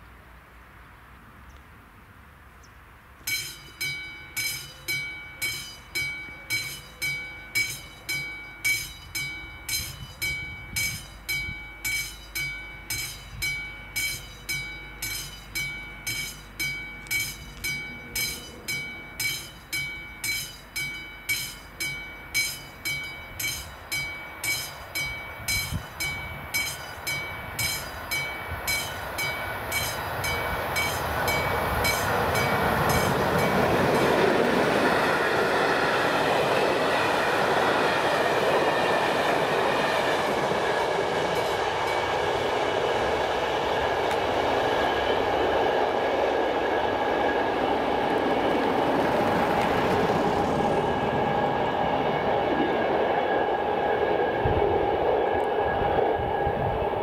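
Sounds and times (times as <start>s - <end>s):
train rumble: 3.0s - 57.0s
level crossing warning bell: 3.2s - 35.2s, 36.2s - 52.9s.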